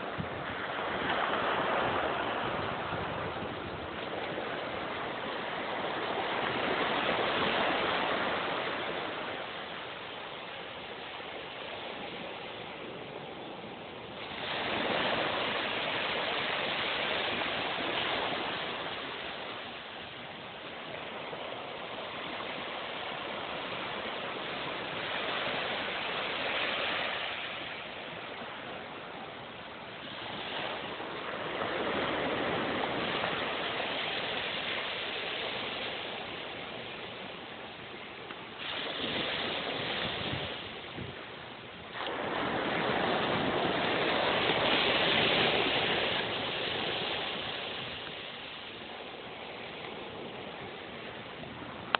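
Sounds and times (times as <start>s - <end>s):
waves washing onto beach: 0.0s - 51.9s.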